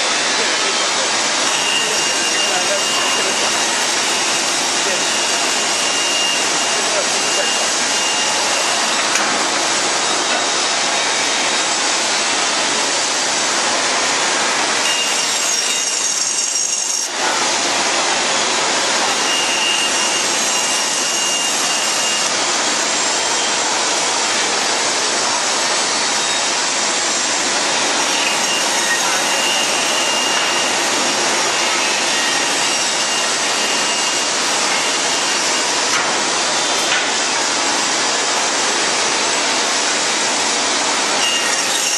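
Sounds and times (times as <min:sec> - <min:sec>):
band saw cutting wood: 0:00.0 - 0:41.9.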